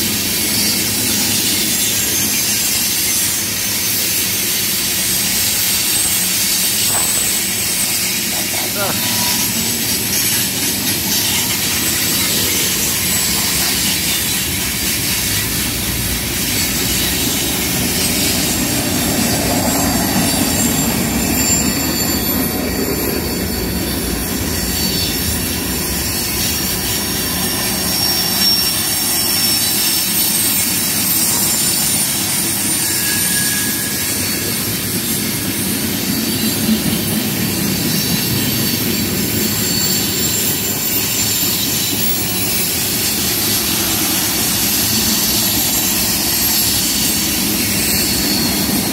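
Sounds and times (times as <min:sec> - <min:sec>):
freight train wheels rumbling: 0:00.0 - 0:48.9
high wheel squeals: 0:00.0 - 0:48.9.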